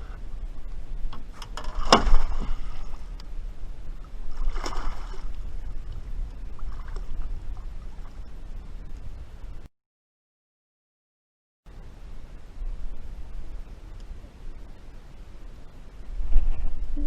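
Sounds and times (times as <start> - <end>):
steady low rumble: 0.0 - 9.7, 11.7 - 17.0.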